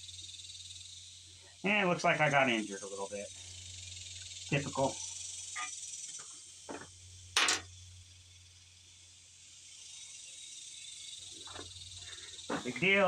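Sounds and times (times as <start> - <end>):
high-pitched insect buzzing: 0.0 - 13.0.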